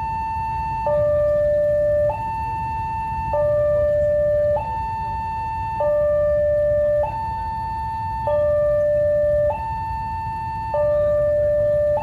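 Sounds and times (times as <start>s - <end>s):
two-tone level crossing alarm: 0.0s - 12.0s.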